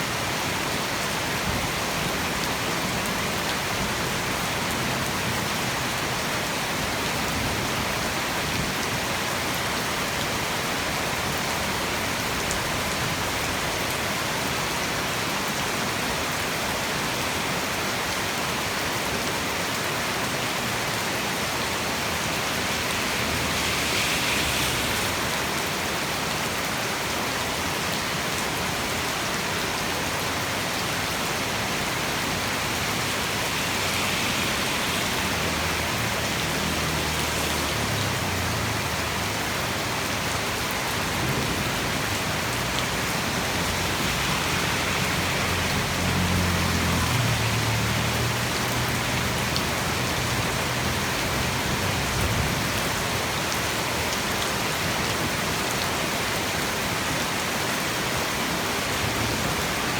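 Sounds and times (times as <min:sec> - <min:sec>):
heavy rain on surfaces: 0:00.0 - 0:59.9.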